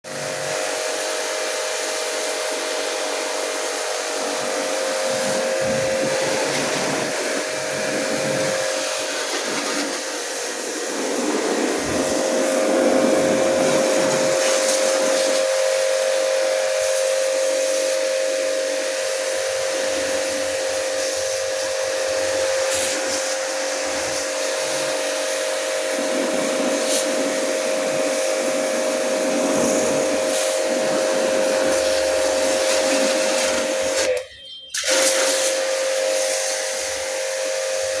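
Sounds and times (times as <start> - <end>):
loud hiss of rushing air: 0.1 - 34.1, 34.8 - 38.0.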